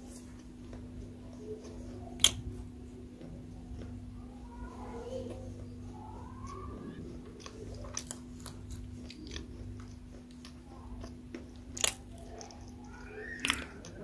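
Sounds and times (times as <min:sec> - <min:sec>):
chewing crunchy food: 0:00.0 - 0:14.0
steady low hum: 0:00.0 - 0:14.0.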